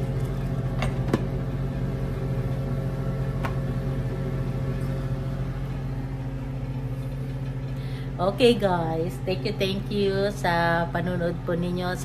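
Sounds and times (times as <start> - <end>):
range hood fan humming: 0.0 - 12.0.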